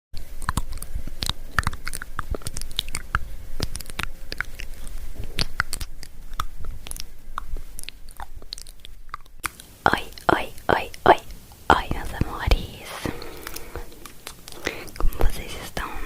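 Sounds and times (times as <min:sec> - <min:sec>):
wet mouth clicks and smacks: 0:00.2 - 0:10.9, 0:11.8 - 0:15.5.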